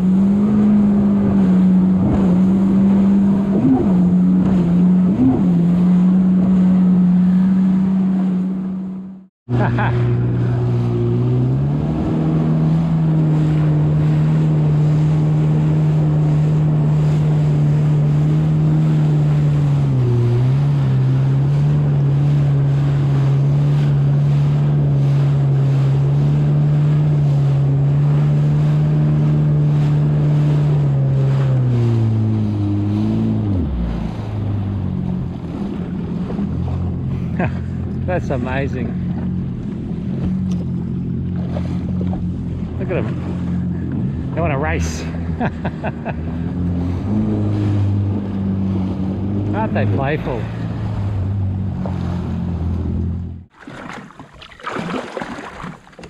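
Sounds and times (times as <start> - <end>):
jet ski engine running: 0.0 - 56.0.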